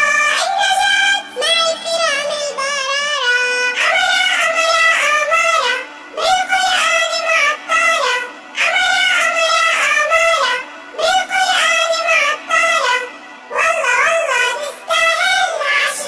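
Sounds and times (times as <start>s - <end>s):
girl singing in a high voice: 0.0s - 16.0s.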